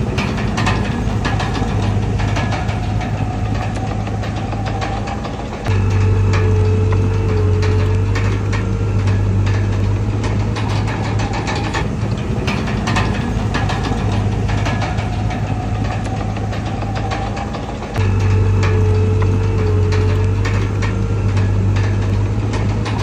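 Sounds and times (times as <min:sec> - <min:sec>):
heavy diesel engine running: 0:00.0 - 0:23.0
machinery clanks and rattles: 0:00.0 - 0:23.0.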